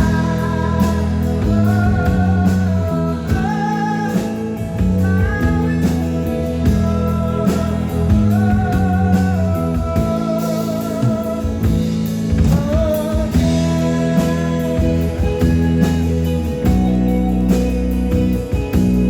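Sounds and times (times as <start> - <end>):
person singing: 0.0 - 17.8
live rock band: 0.0 - 19.0.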